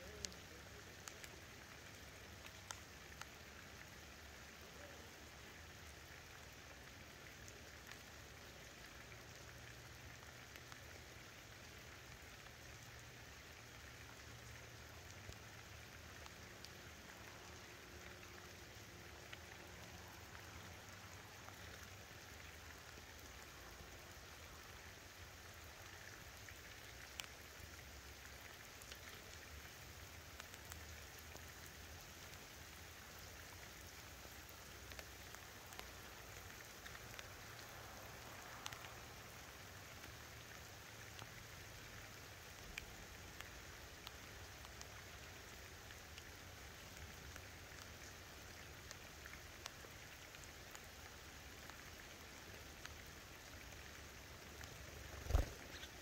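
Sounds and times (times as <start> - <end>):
faint rain patter: 0.0 - 56.0.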